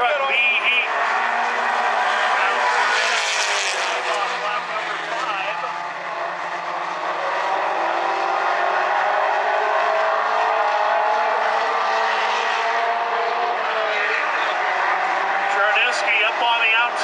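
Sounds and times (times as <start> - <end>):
race truck engines droning: 0.0 - 17.0.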